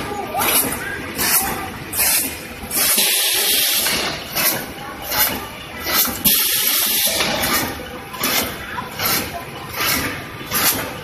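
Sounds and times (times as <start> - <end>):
machine hissing in surges: 0.4 - 10.9.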